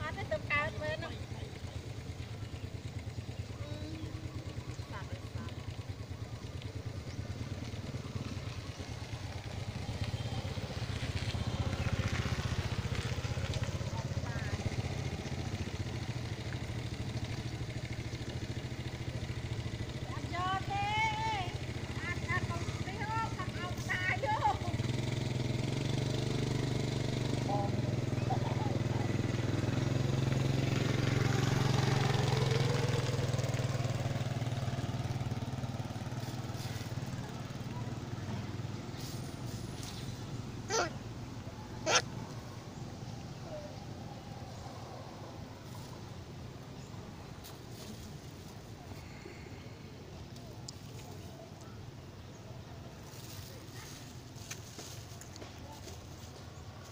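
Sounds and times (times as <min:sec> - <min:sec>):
small engine idling: 0:00.0 - 0:56.9.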